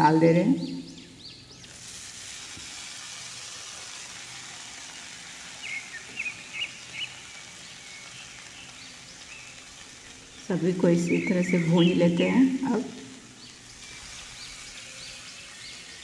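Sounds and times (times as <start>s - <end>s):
vegetables sizzling in hot oil: 0.7s - 16.0s.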